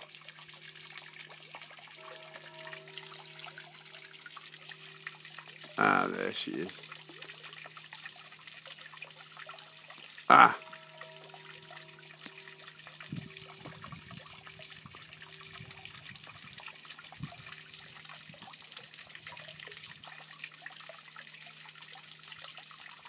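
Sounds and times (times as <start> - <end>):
water trickling in pond: 0.0 - 23.0.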